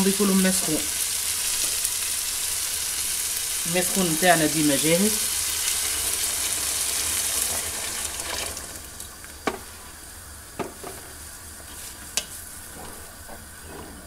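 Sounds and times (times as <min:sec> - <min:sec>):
hot water sizzling in a pot: 0:00.0 - 0:13.7.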